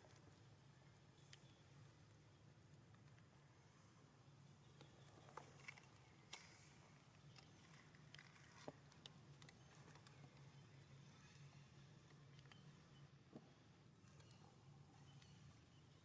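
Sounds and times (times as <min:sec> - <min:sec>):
faint ticks and rustles: 0:00.0 - 0:16.0
low steady hum: 0:00.0 - 0:16.0.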